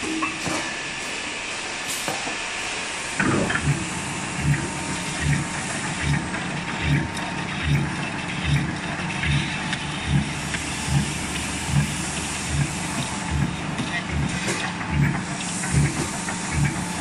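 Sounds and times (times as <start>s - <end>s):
flanging machine hissing: 0.0s - 17.0s.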